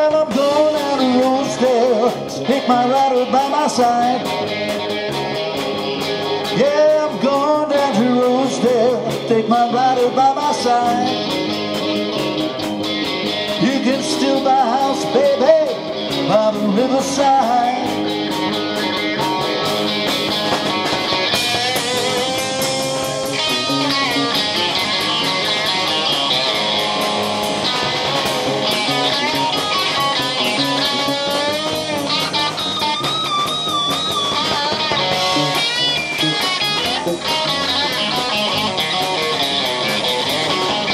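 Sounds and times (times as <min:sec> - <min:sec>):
bass: 0:00.0 - 0:40.9
drums: 0:00.0 - 0:40.9
electric guitar bending notes: 0:00.0 - 0:40.9
keyboards: 0:00.0 - 0:40.9.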